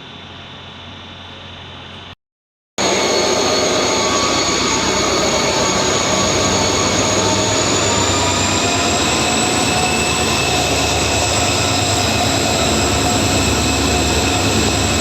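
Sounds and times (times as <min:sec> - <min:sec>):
high-pitched whining tones: 0:02.8 - 0:15.0
train running: 0:02.8 - 0:15.0.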